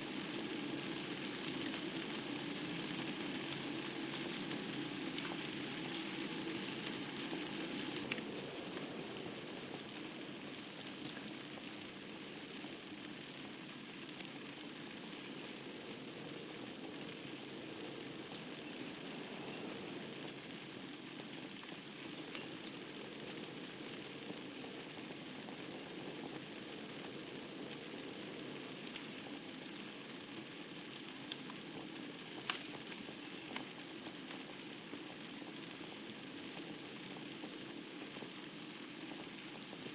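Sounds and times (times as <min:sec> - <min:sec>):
wood fire crackles: 0:00.0 - 0:39.9.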